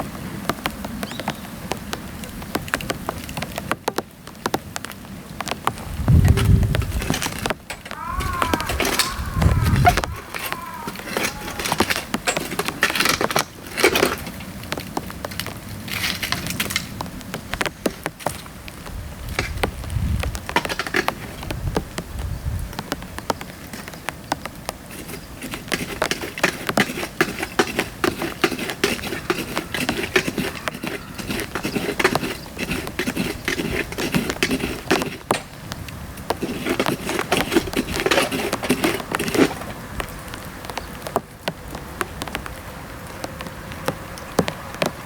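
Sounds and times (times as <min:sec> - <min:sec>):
bamboo crackling in a campfire: 0:00.0 - 0:45.0.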